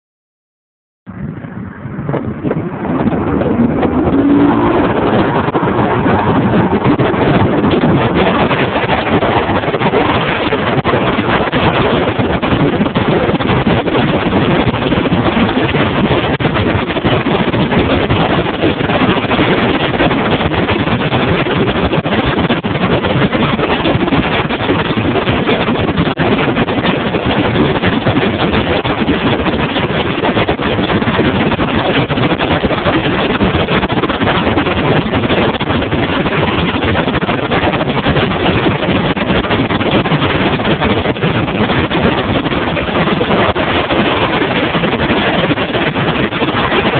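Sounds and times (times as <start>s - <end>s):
water against hull: 1.1s - 46.9s
wind rushing on microphone: 1.1s - 46.9s
outboard motor running: 1.2s - 46.9s.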